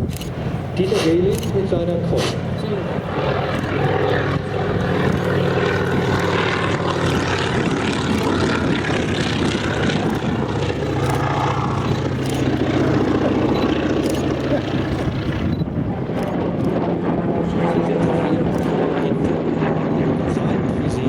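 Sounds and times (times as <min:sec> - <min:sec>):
propeller aircraft engine droning: 0:00.0 - 0:21.0.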